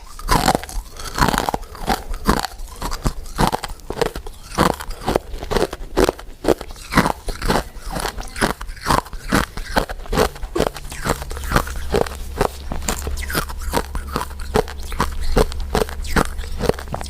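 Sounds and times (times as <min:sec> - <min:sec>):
crunchy chewing of sweets: 0:00.0 - 0:17.0.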